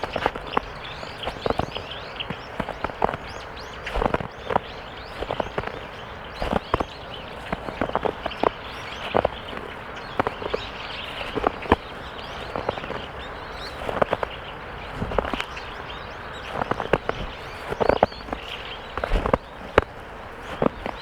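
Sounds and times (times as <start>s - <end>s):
footsteps crunching in snow: 0.0s - 21.0s.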